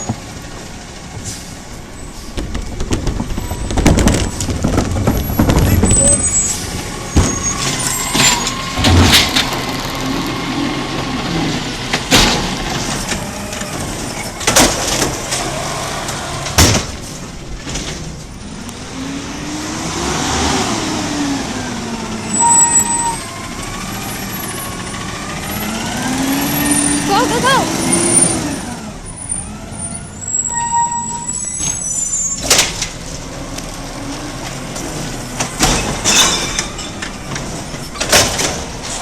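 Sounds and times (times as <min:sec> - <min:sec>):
garbage truck engine running: 0:00.0 - 0:19.9, 0:21.0 - 0:39.0.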